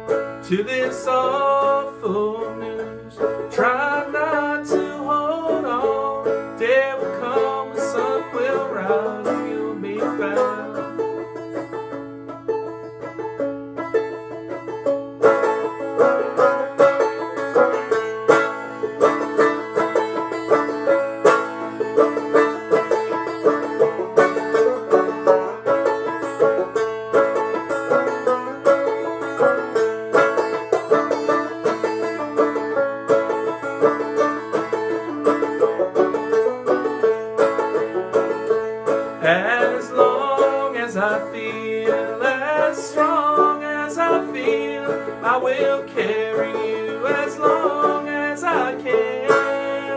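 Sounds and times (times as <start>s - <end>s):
banjo playing fast plucked notes: 0.0s - 49.9s.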